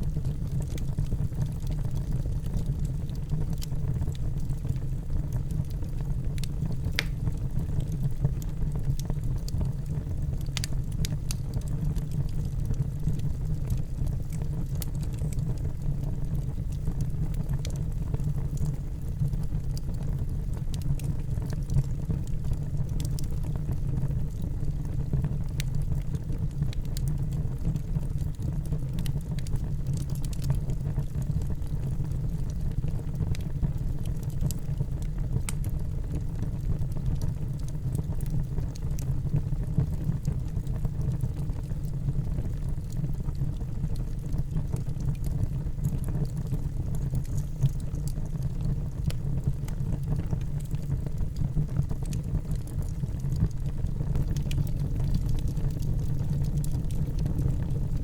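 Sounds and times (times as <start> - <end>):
fire burning in fireplace: 0.0 - 58.0
fire crackles and pops: 0.0 - 58.0.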